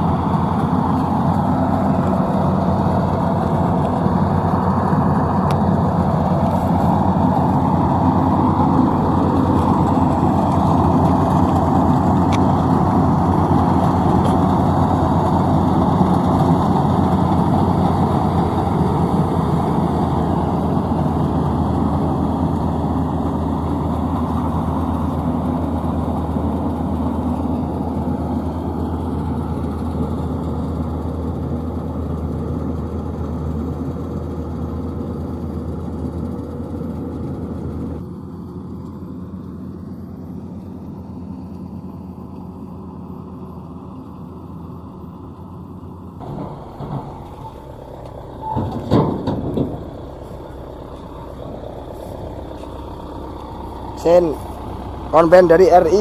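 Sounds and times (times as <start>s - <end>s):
combine harvester engine running: 0.0s - 56.0s.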